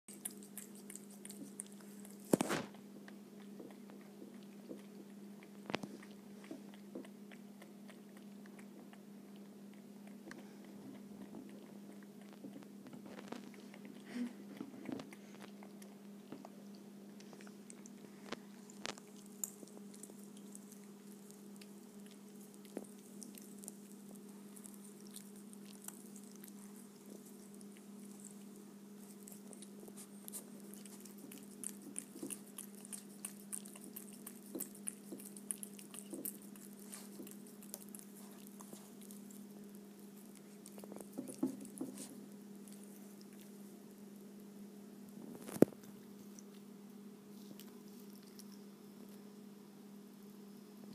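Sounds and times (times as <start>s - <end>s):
cat crunching peanuts: 0.1s - 16.3s, 17.2s - 43.6s, 47.4s - 49.3s
steady low hum: 0.1s - 50.9s.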